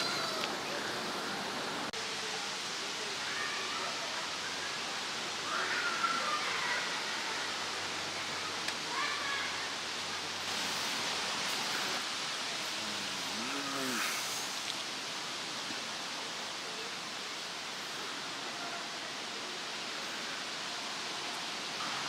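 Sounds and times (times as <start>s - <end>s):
faint distant voices: 0.0s - 22.0s
steady rushing river ambience: 0.0s - 22.0s.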